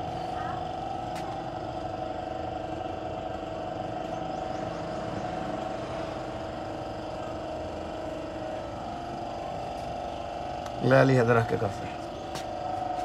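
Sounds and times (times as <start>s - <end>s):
motor droning hum: 0.0s - 13.0s.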